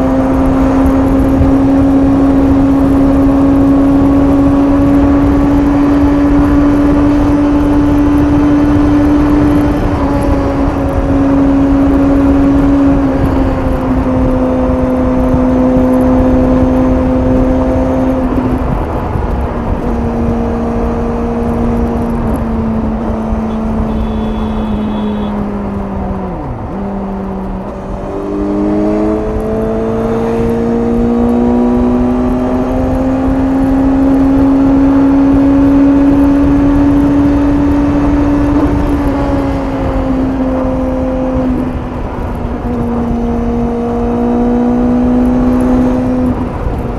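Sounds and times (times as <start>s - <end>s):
motorcycle engine: 0.0s - 46.9s.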